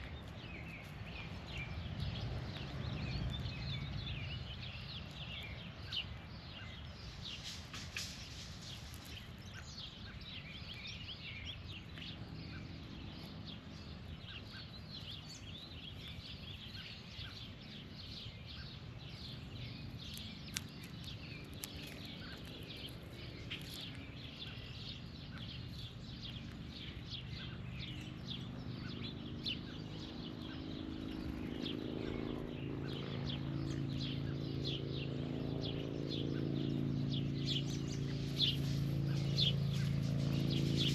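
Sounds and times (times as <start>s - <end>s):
birds chirping: 0.0s - 40.9s
low engine hum: 0.0s - 40.9s.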